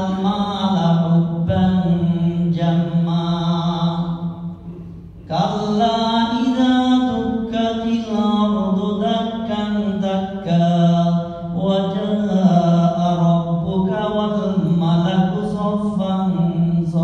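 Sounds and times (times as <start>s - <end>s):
man chanting: 0.0s - 4.5s, 5.3s - 17.0s.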